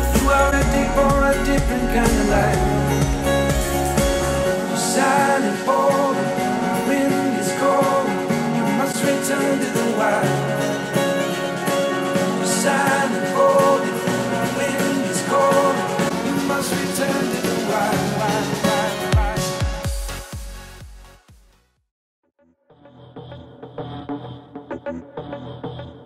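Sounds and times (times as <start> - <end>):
music from studio monitors: 0.0 - 21.6.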